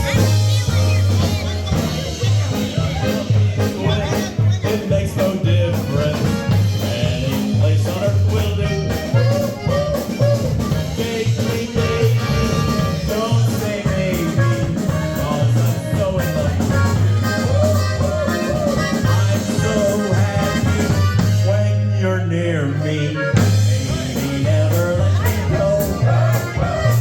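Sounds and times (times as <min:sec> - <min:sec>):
music with repeating bass line: 0:00.0 - 0:27.0.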